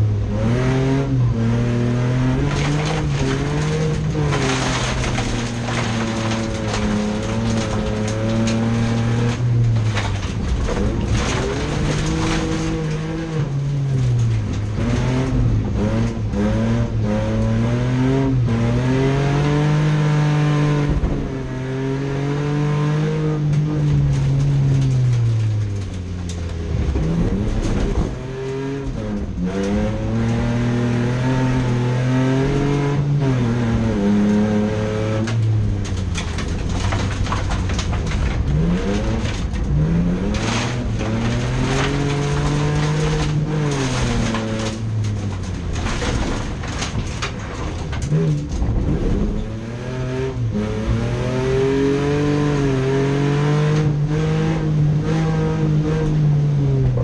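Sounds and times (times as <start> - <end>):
engine crackles: 0.0 - 57.0
racing car engine revving: 0.0 - 57.0.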